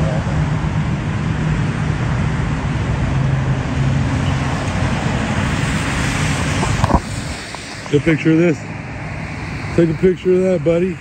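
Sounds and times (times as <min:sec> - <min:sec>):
cars passing on wet road: 0:00.0 - 0:11.0.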